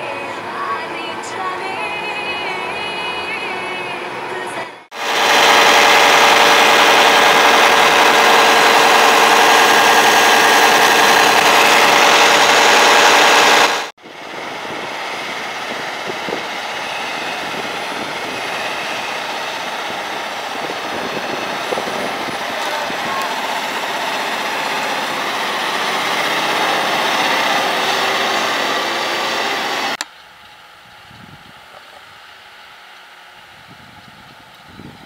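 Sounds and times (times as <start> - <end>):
whining tones: 0.0 - 34.9
tractor diesel engine running: 0.0 - 35.0.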